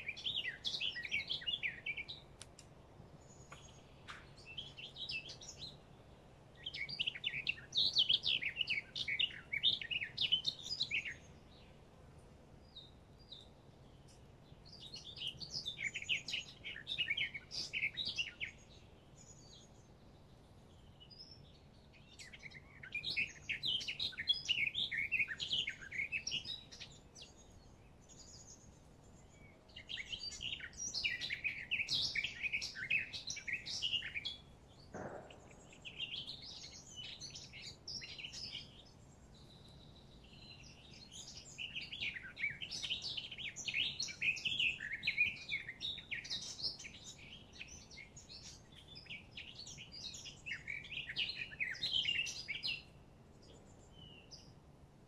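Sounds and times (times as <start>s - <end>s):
songbirds twittering: 0.0s - 54.8s.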